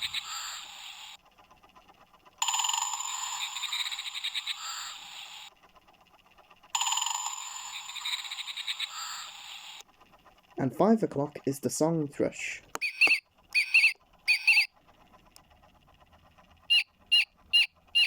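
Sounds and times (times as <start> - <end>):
woodpecker drumming from small speaker: 0.0 - 18.0.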